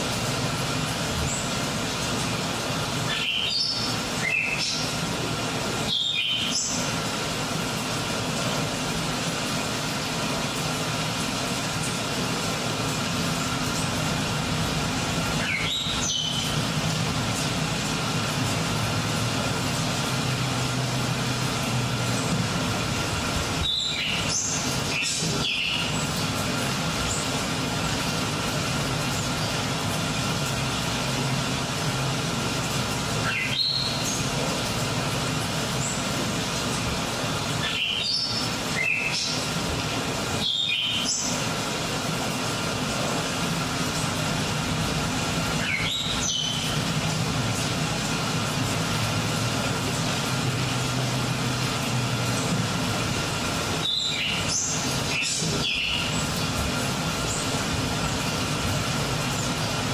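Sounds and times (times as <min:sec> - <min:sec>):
dense noise with low rumble: 0:00.0 - 0:59.9.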